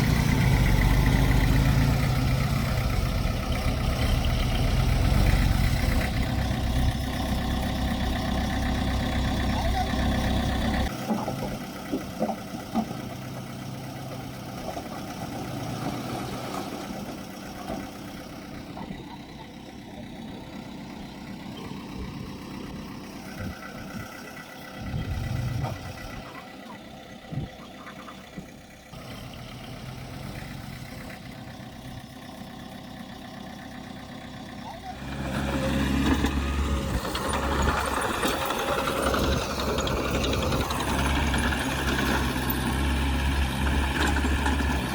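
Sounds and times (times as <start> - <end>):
heavy machinery diesel engines: 0.0 - 44.9.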